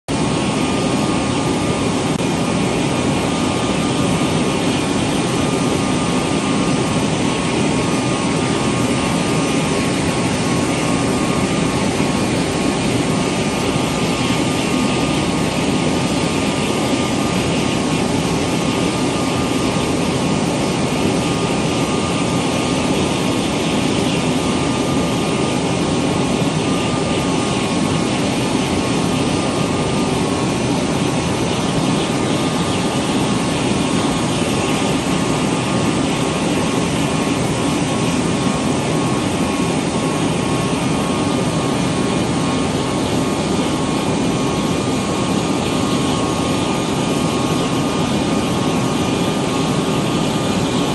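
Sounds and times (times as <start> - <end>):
jet engine rush with high whine: 0.0 - 50.9.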